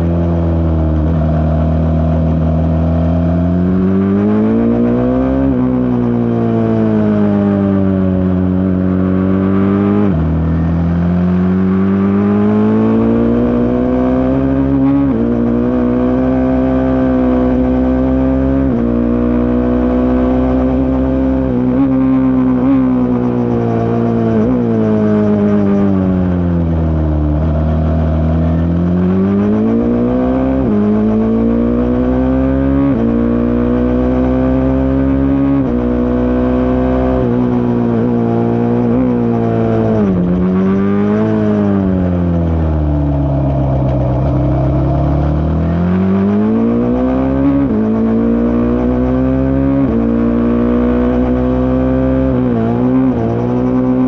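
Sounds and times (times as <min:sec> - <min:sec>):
racing car engine revving: 0:00.0 - 0:54.0.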